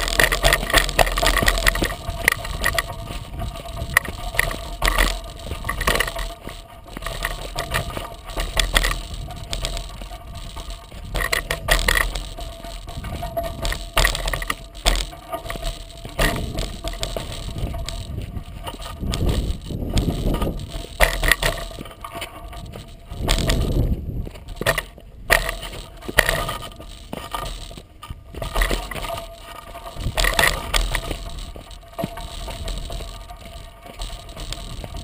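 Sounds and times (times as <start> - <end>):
rough rumble: 0.0 - 35.0
tyre knocking and rattling on rocks: 0.0 - 35.0.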